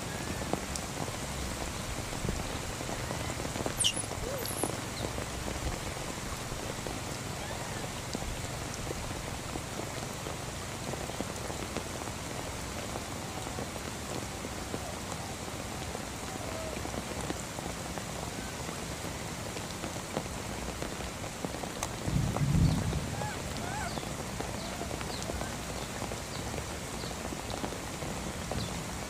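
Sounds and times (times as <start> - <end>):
rain falling on a puddle: 0.0 - 29.0.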